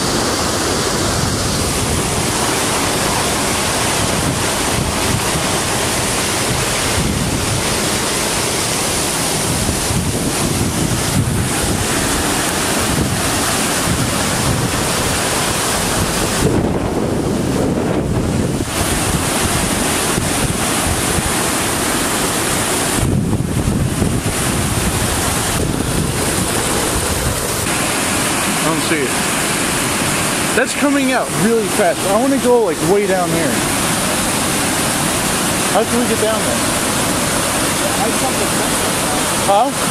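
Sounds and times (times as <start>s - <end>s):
floodwater rushing over rocks: 0.0s - 39.9s
wind gusting on microphone: 0.0s - 39.9s.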